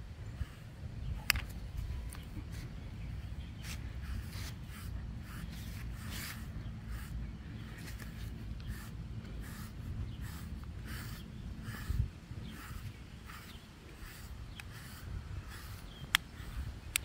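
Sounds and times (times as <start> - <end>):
steady low rumble: 0.0 - 17.0
brush scratching through dog fur: 0.4 - 17.0.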